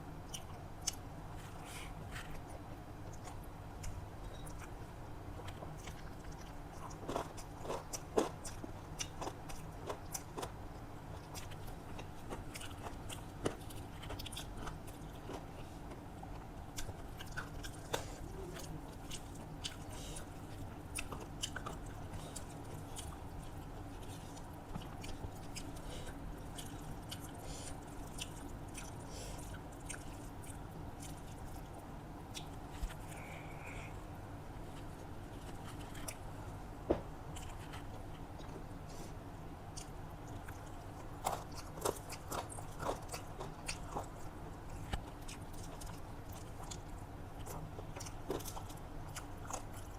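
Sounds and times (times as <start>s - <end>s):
steady low hum: 0.0s - 49.9s
person chewing food: 0.2s - 36.6s, 37.2s - 49.9s.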